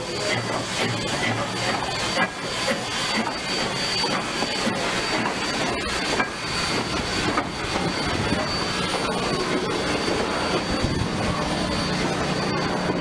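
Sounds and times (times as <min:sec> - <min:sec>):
steam locomotive hissing: 0:00.0 - 0:13.0
train wheels knocking: 0:00.0 - 0:13.0.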